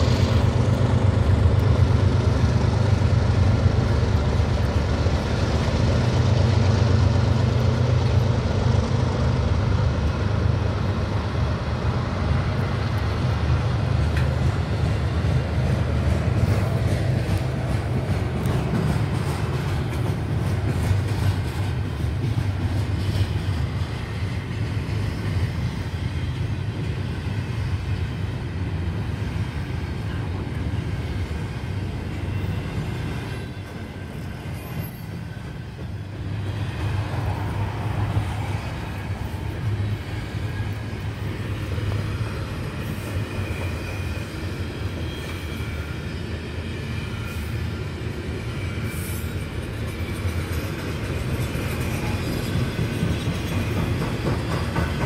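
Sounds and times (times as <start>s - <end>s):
diesel locomotive drone: 0.0s - 55.0s.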